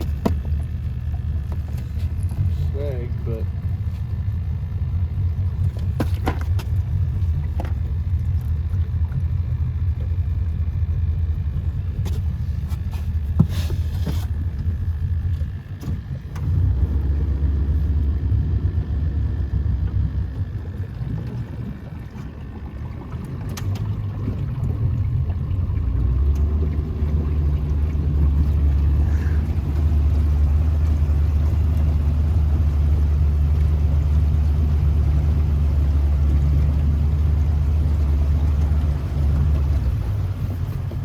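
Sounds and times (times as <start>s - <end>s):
outboard motor rumbling: 0.0s - 41.0s.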